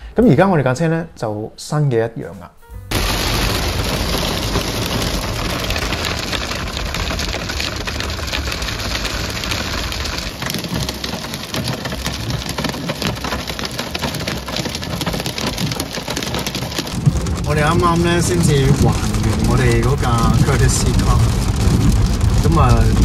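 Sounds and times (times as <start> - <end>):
hail and rain on car roof: 2.9 - 23.0.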